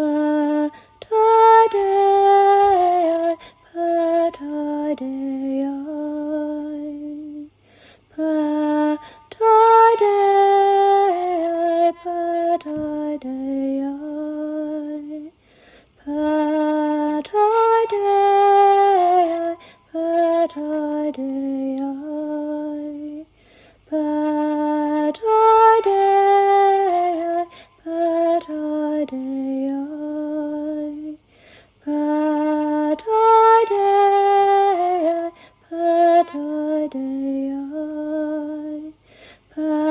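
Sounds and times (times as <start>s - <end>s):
woman singing wordless chant: 0.0s - 39.9s.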